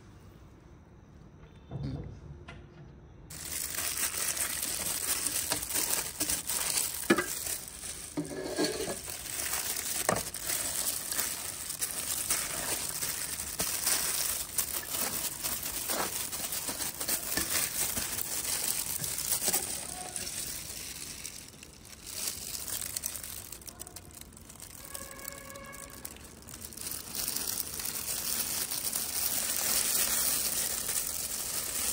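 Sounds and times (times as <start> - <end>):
food sizzling in hot oil: 3.3 - 25.0, 26.3 - 31.9
oil popping: 3.3 - 31.9.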